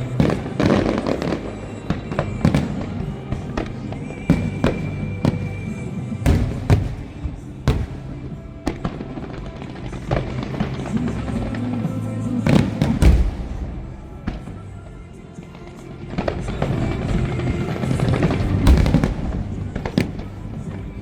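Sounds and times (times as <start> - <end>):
fireworks bursting: 0.0 - 14.8, 15.7 - 21.0
music over loudspeakers: 0.0 - 21.0.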